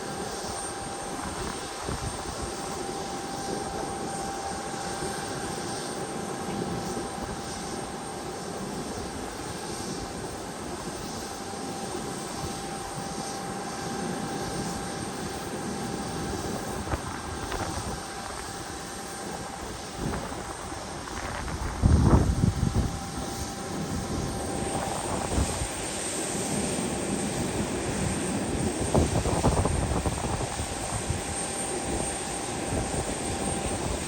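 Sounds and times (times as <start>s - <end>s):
airliner engines running: 0.0s - 34.0s.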